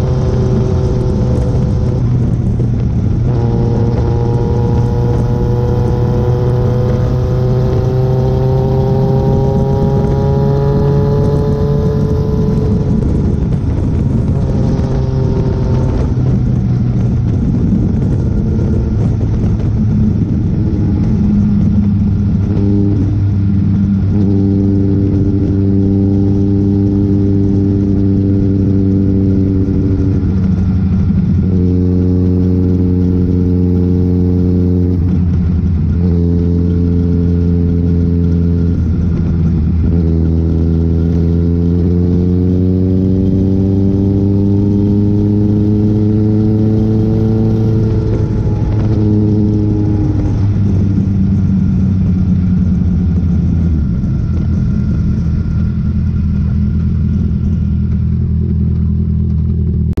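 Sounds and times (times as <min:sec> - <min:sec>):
vehicle engine running: 0:00.0 - 1:00.0.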